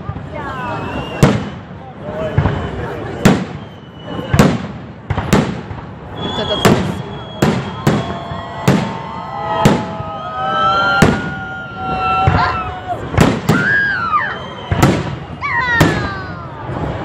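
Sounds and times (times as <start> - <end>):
fireworks bangs: 0.0 - 17.0
fireworks whistling: 0.0 - 17.0.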